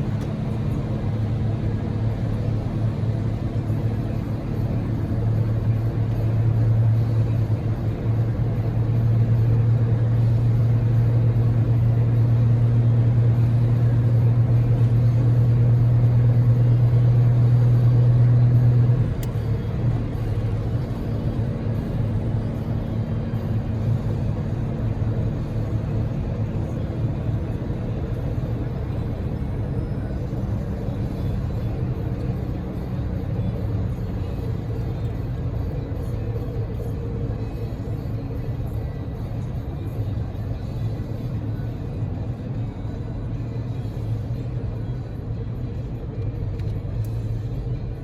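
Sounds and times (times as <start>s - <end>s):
road and tyre noise: 0.0s - 48.0s.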